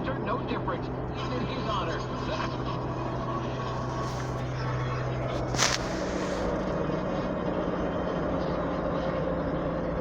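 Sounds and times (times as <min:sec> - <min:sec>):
car engine hum: 0:00.0 - 0:10.0
road rumble: 0:00.0 - 0:10.0.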